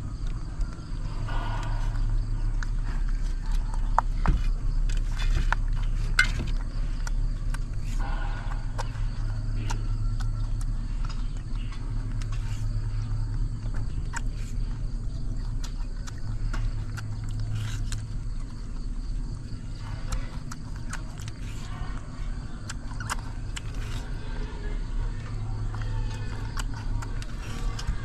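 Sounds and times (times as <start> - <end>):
monkey chewing and lip-smacking: 0.0 - 28.0
steady low hum: 0.0 - 28.0.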